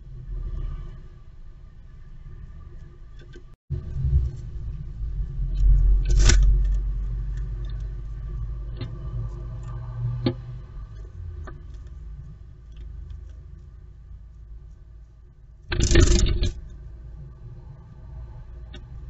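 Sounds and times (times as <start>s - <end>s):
low rumble from nest box: 0.0s - 19.0s.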